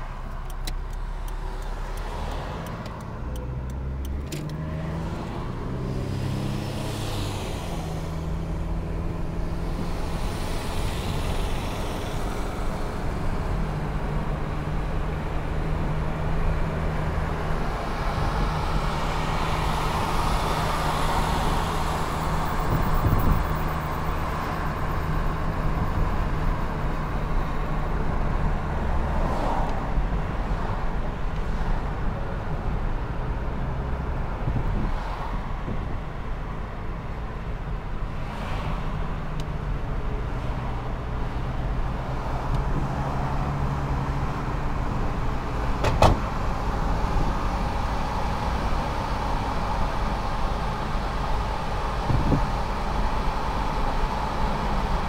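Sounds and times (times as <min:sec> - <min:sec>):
car engine and road hum: 0:00.0 - 0:55.0.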